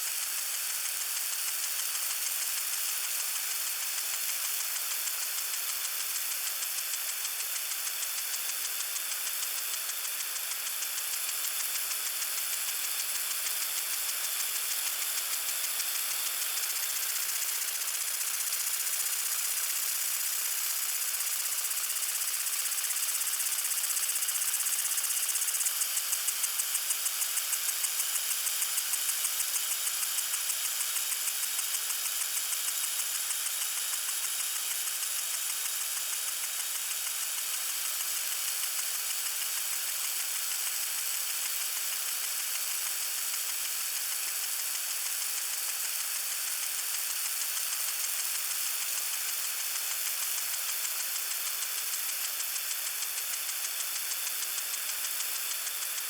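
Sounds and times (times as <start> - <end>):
lawn sprinkler spraying water: 0.0 - 56.0.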